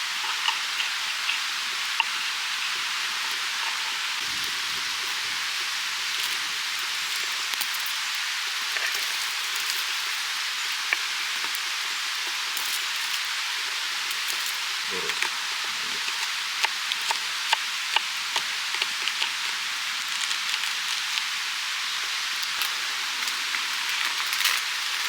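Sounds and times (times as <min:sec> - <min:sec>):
skewers sizzling over fire: 0:00.0 - 0:25.0.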